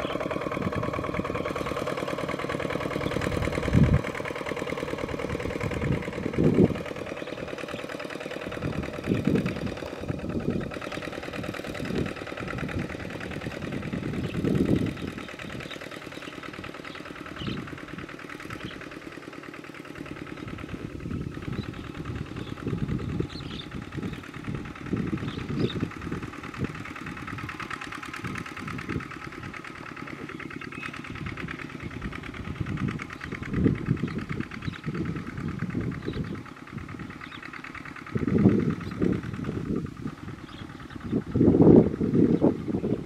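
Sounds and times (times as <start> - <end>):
diesel tractor engine running: 0.0 - 43.0.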